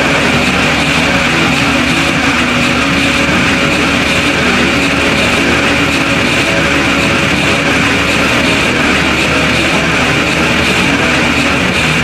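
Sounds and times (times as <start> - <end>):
faint drone tones: 0.0 - 12.0
harsh noise music: 0.0 - 12.0.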